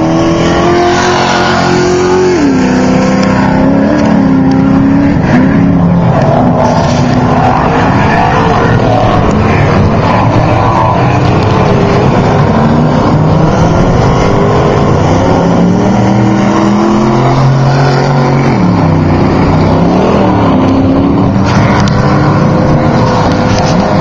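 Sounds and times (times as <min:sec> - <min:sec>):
truck engine running hard: 0:00.0 - 0:24.0.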